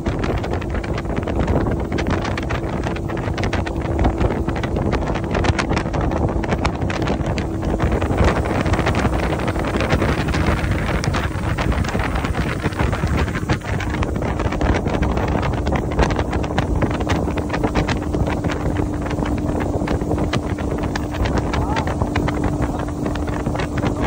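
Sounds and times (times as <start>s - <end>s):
outboard motor humming: 0.0s - 24.0s
wind buffeting microphone: 0.0s - 24.0s.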